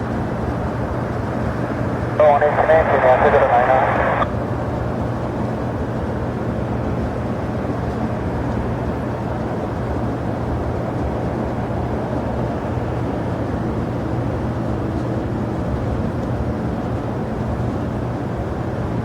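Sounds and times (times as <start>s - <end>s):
jet airliner engines: 0.0s - 19.0s.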